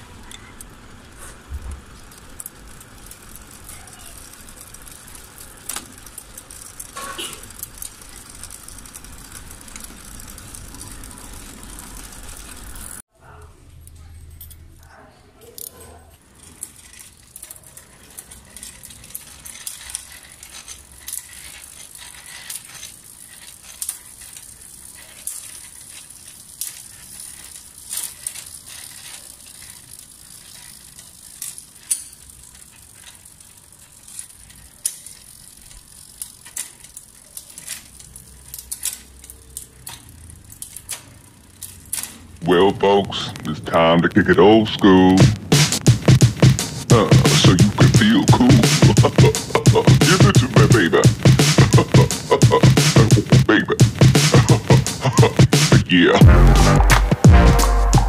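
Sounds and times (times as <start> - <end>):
bike chain rattling and clicking: 0.0 - 42.4, 45.1 - 56.1.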